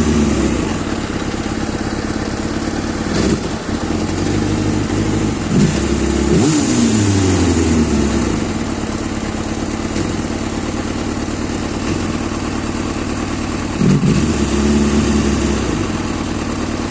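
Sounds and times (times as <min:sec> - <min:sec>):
engine idling unevenly: 0:00.0 - 0:16.9
motorcycle engine revving: 0:00.0 - 0:16.9.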